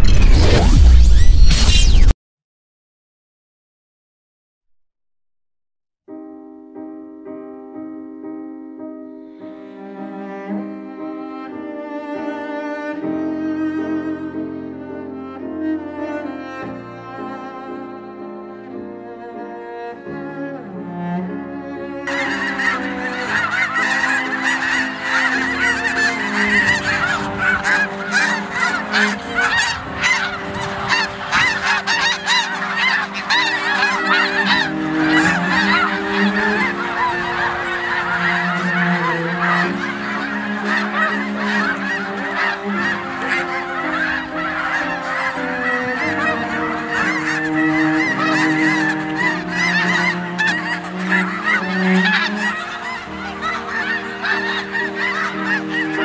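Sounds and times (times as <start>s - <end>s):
geese honking: 9.4s - 56.0s.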